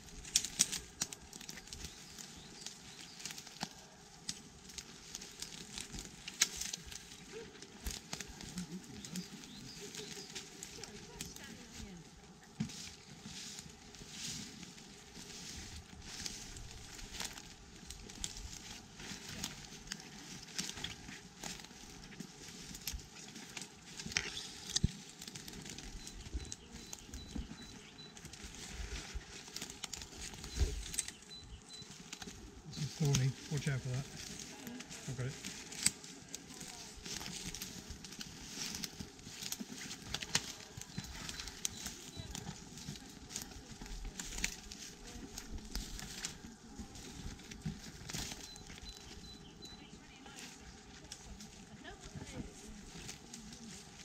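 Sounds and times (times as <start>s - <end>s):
leaf litter rustling: 0.0s - 54.0s
twigs crackling and snapping: 0.0s - 54.0s.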